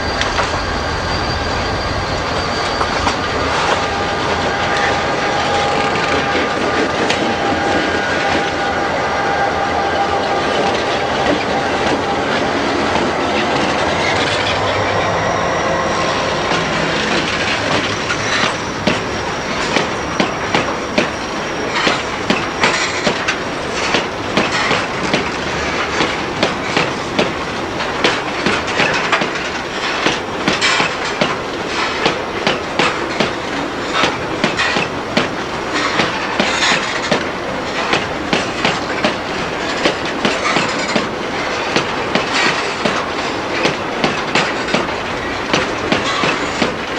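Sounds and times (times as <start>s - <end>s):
high-pitched wheel squeal: 0.0s - 46.9s
train wheels clacking over rail joints: 0.0s - 46.9s.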